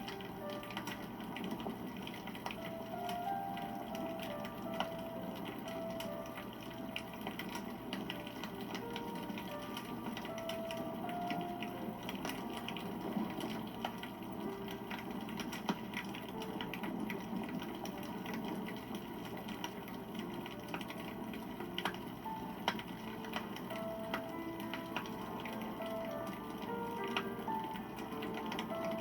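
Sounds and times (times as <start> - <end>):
campfire crackling: 0.0 - 29.0
fire popping: 0.0 - 29.0.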